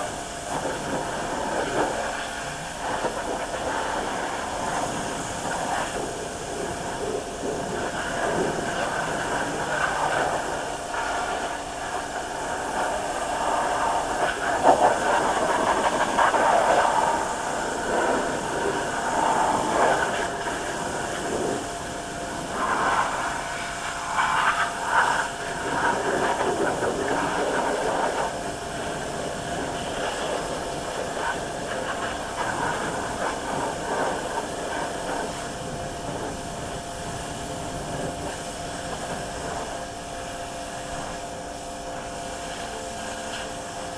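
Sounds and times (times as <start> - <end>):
hissing spray: 0.0 - 43.9.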